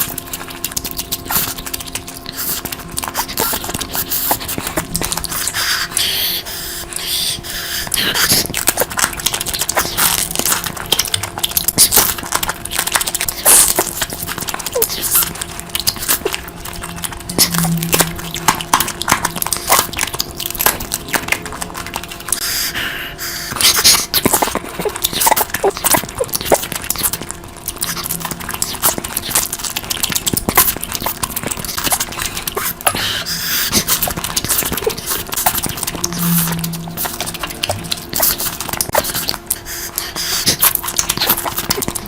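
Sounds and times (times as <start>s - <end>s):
wet chewing and mouth clicks: 0.0s - 42.0s.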